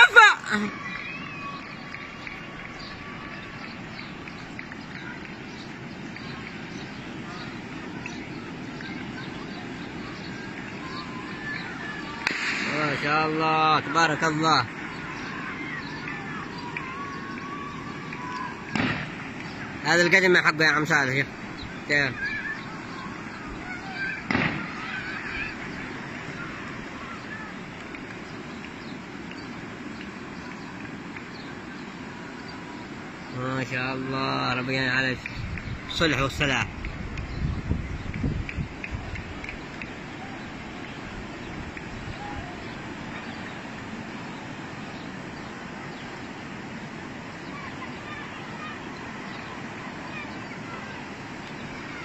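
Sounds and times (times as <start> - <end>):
distant shouts: 0.0 - 36.9, 38.6 - 52.0
floodwater rushing: 0.0 - 52.0.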